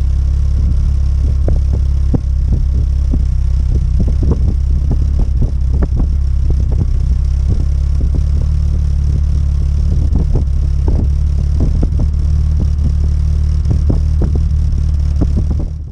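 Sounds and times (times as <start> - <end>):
car engine idling: 0.0 - 15.9
engine ticking: 0.0 - 15.9.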